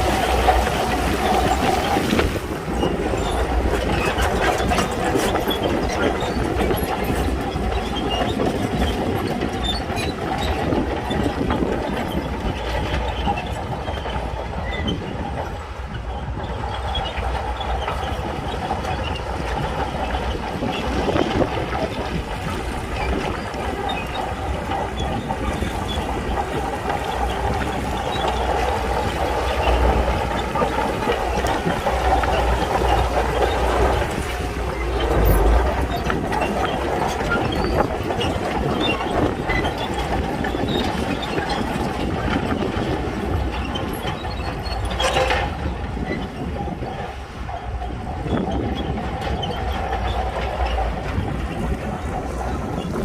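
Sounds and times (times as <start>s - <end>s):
bulldozer diesel engine under load: 0.0s - 53.0s
steel tracks clanking and rattling: 0.0s - 53.0s.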